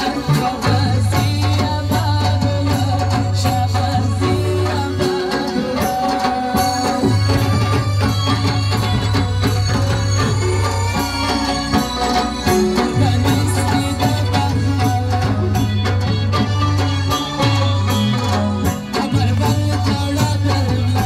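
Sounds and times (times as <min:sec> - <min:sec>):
drum beating: 0:00.0 - 0:21.0.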